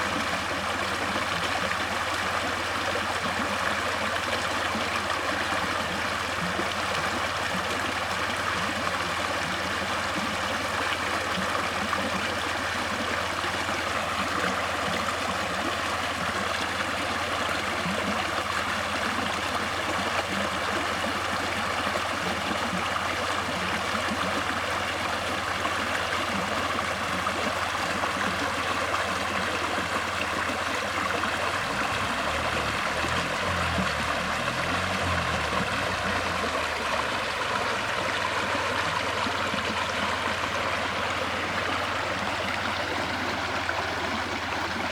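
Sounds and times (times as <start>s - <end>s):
water flowing: 0.0s - 44.9s.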